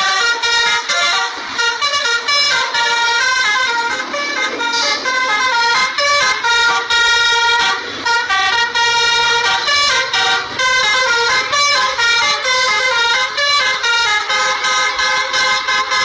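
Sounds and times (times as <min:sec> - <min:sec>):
multi-tone horn playing a tune: 0:00.0 - 0:16.0.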